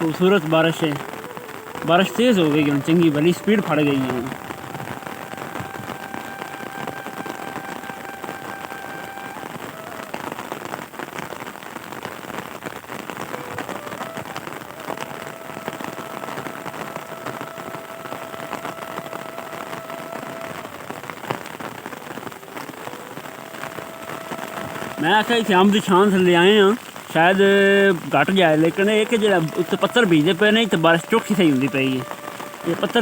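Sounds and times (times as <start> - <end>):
hailstones hitting leaves: 0.0 - 33.0
heavy rain: 0.0 - 33.0.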